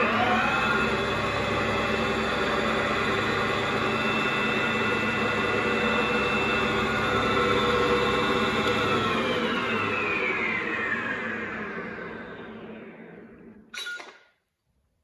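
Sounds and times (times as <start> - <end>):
lathe running with whining tones: 0.0 - 13.7.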